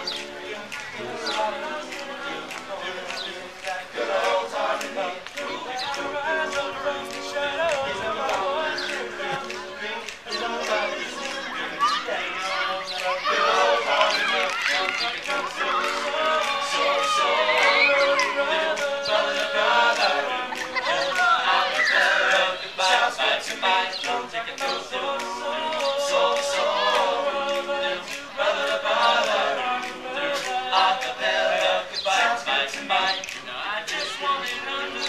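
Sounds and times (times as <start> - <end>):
men's a cappella group singing: 0.0 - 35.0.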